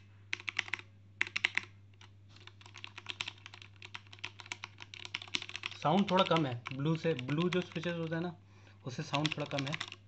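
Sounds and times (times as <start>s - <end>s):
mechanical keyboard typing: 0.3s - 8.2s, 8.9s - 10.0s.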